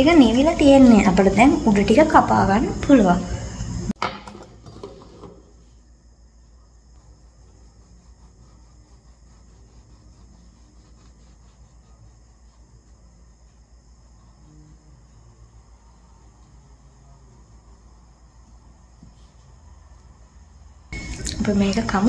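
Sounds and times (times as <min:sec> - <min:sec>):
faint low hum: 0:00.0 - 0:22.0
insect chirping: 0:00.0 - 0:22.0.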